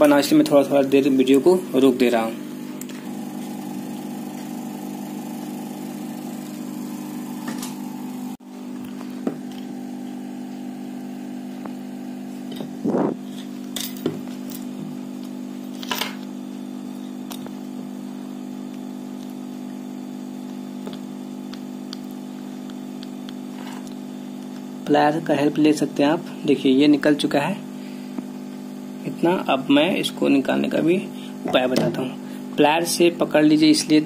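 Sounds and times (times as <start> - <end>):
heat gun blower humming: 0.0 - 34.0.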